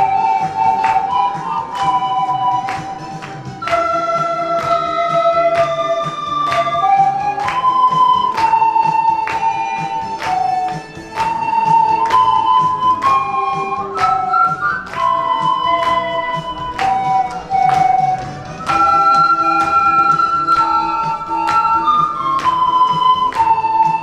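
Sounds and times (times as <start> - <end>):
backing track with steady beat: 0.0 - 24.0
panflute ensemble melody: 0.0 - 24.0.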